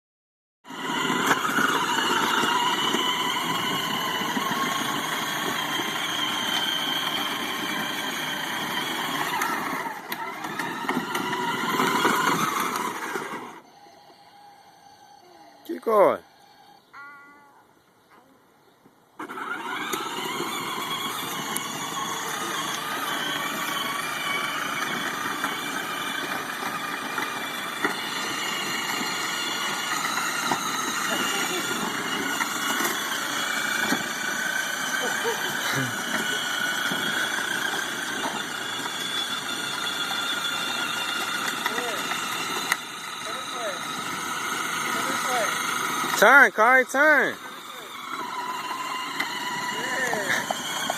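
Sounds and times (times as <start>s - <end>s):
sports car engine running: 0.8s - 13.5s, 19.4s - 50.9s.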